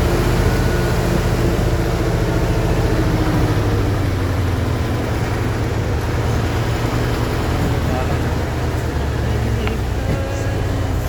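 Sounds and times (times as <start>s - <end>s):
loud truck engine running: 0.0s - 11.0s.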